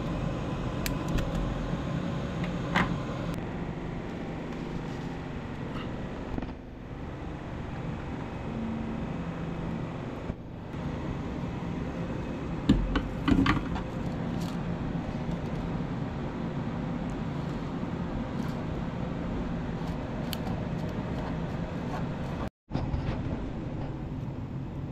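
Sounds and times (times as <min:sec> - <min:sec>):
printer fans and motors humming: 0:00.0 - 0:24.9.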